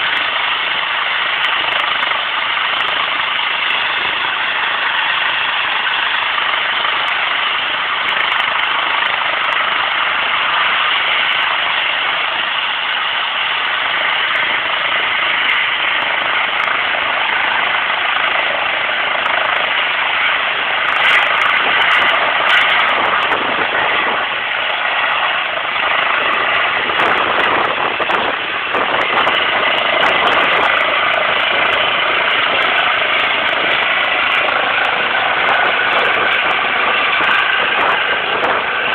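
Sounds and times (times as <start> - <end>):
helicopter turbine and rotor: 0.0 - 38.9.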